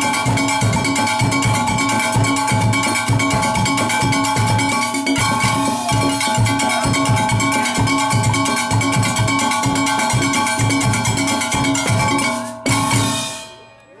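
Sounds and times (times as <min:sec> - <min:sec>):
drum kit and bass drum: 0:00.0 - 0:13.5
brake-drum irons struck with beaters: 0:00.0 - 0:13.6.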